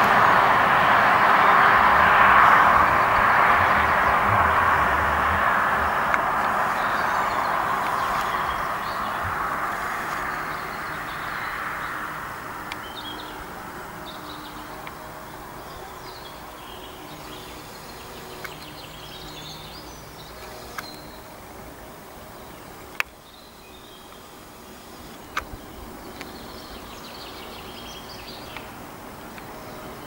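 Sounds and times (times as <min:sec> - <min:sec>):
faint distant traffic hum: 0:00.0 - 0:30.0
road traffic passing: 0:00.0 - 0:30.0
small birds chirping: 0:02.4 - 0:30.0.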